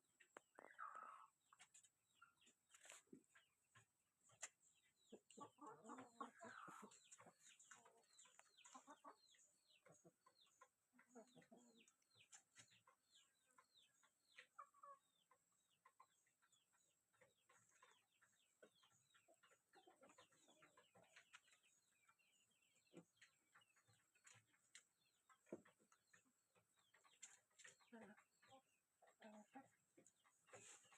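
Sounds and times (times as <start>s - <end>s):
chickens clucking: 0.1s - 30.9s.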